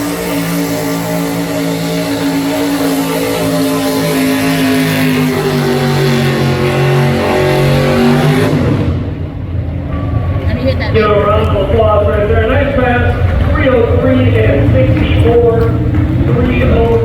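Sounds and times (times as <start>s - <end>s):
tractor engine running hard: 0.0s - 17.0s.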